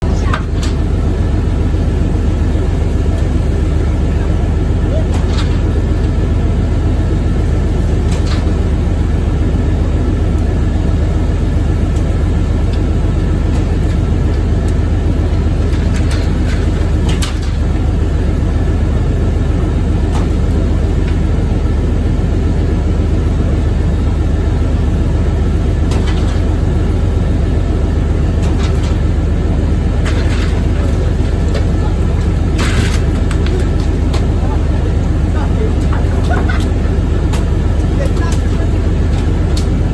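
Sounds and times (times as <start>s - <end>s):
boat engine low drone: 0.0s - 39.9s.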